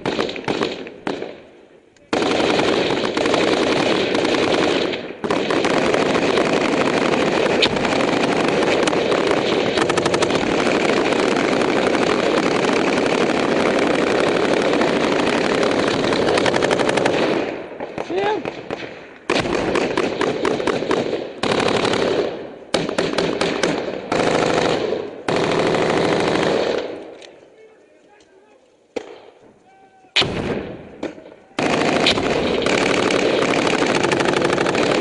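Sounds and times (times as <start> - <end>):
machine gunfire: 0.0 - 1.4, 2.1 - 27.0, 30.2 - 35.0.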